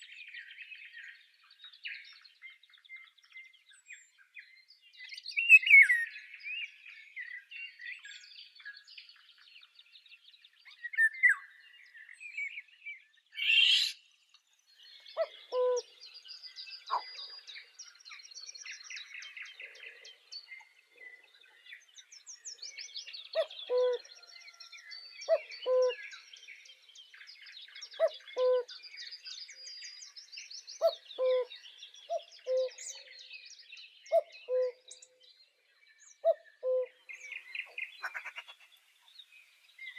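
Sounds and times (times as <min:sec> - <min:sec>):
birdsong chorus: 0:00.0 - 0:39.9.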